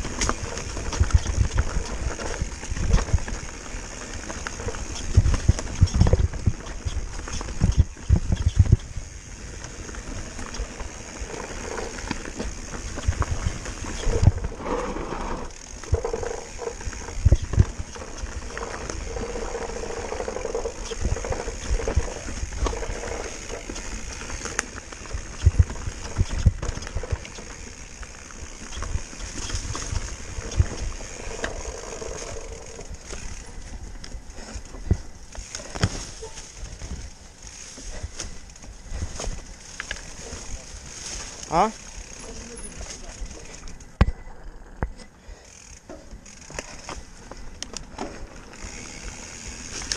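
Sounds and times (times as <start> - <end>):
wheels thudding on rocks: 0.0 - 33.8, 34.4 - 41.4
bike rattling: 0.0 - 49.9
tyre and trail noise: 0.0 - 49.9.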